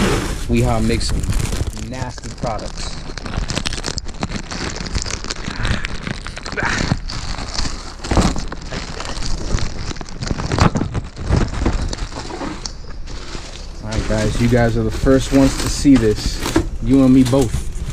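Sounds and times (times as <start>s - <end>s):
plastic bag crinkling: 0.3s - 17.9s.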